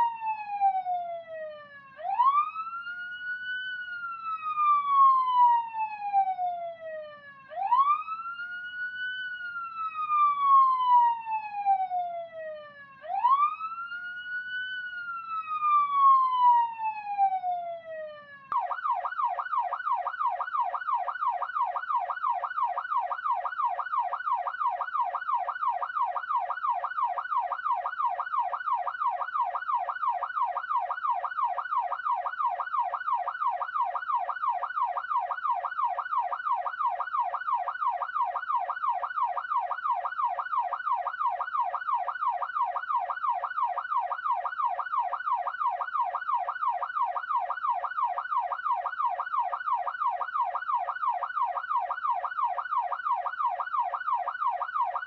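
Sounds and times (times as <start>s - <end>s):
police siren wailing and yelping: 0.0s - 55.0s.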